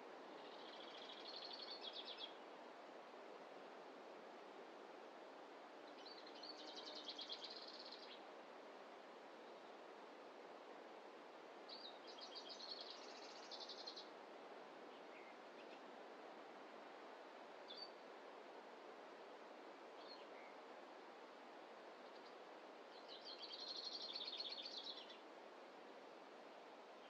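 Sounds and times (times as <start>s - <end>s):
soft background hiss: 0.0s - 27.0s.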